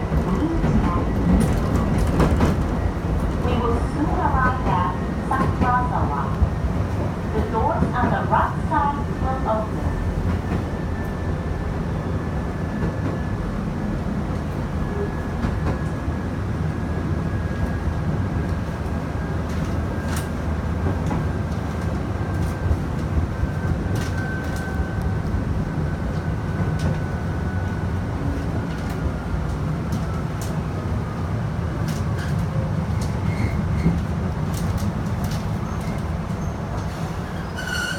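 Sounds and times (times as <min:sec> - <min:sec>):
train rumble: 0:00.0 - 0:37.9.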